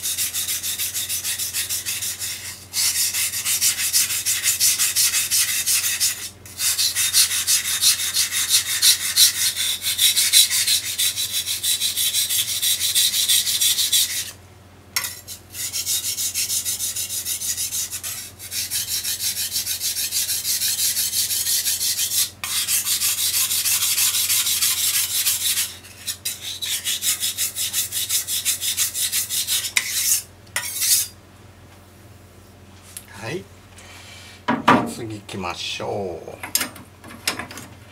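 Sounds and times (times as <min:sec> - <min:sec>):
knife grinding on wet whetstone: 0:00.0 - 0:14.4, 0:15.0 - 0:31.2.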